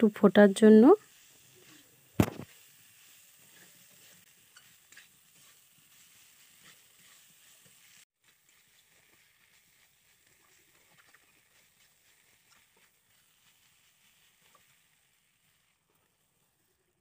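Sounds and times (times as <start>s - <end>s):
faint sizzling: 0.0s - 17.0s
spatula stirring vegetables: 0.0s - 17.0s.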